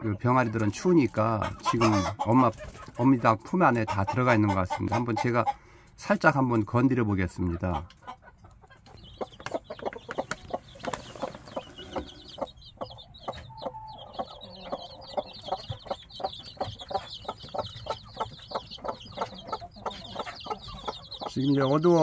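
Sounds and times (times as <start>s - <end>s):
chicks peeping: 0.0s - 22.0s
hen clucking: 0.0s - 22.0s.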